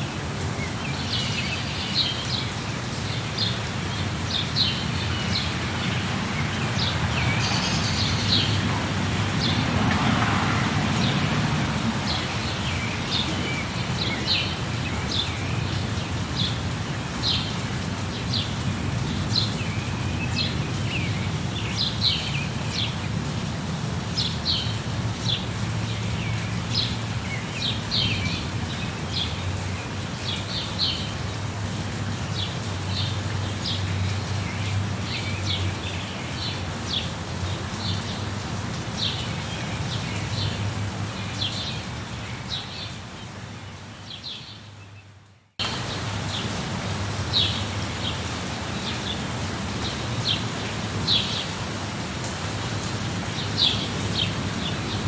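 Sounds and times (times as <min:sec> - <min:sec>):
rain hissing: 0:00.0 - 0:44.4, 0:45.6 - 0:55.0.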